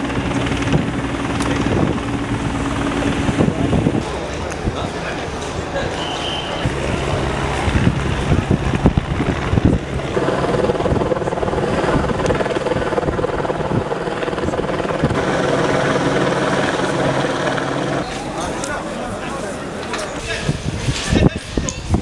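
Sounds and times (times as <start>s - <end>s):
wind buffeting microphone: 0.0s - 5.9s, 6.6s - 22.0s
engine drone: 0.0s - 19.9s.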